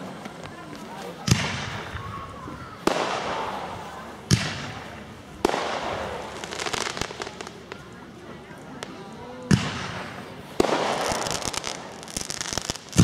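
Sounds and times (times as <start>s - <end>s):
fireworks bangs with hiss: 0.0s - 13.0s
crackling firework pops: 0.1s - 8.0s, 8.6s - 13.0s.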